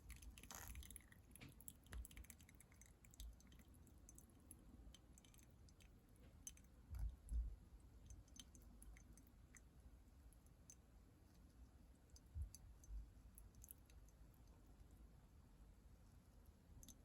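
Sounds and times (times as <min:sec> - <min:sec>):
faint small clicks and crackles: 0:00.0 - 0:15.0, 0:16.3 - 0:17.0.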